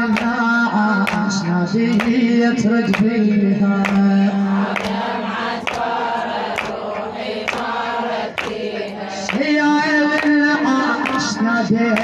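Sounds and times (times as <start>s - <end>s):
women chanting a lament: 0.0s - 12.0s.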